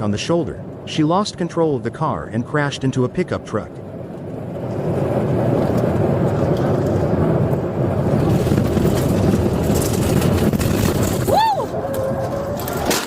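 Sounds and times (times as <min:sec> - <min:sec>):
car engine tyre and wind rumble: 0:00.0 - 0:13.0.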